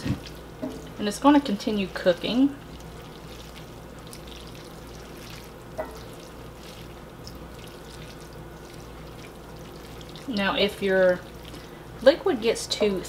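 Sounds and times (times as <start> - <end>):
wet slithering of pasta in pan: 0.0 - 12.1
steady low hum: 0.0 - 13.0.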